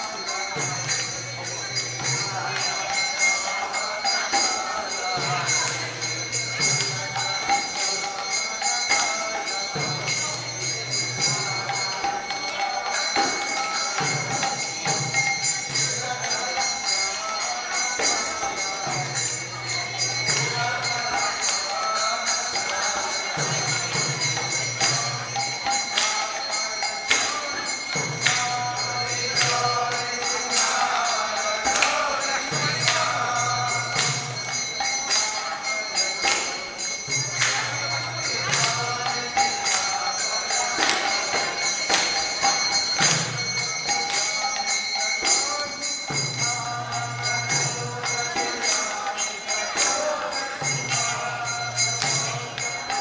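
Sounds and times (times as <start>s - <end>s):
hand cymbals and bells jingling: 0.0s - 53.0s
voices singing a chant: 0.0s - 53.0s.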